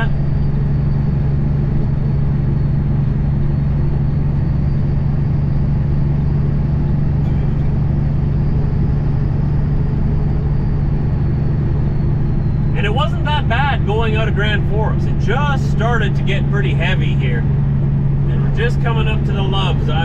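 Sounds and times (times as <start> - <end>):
diesel truck engine droning: 0.0 - 20.0
road rumble: 0.0 - 20.0.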